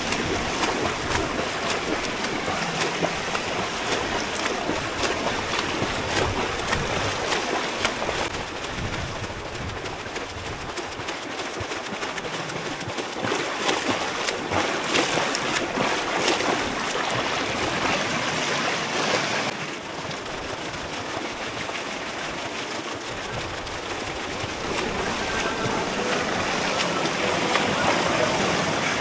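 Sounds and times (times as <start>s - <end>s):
swimmer splashing in pool water: 0.0s - 29.0s.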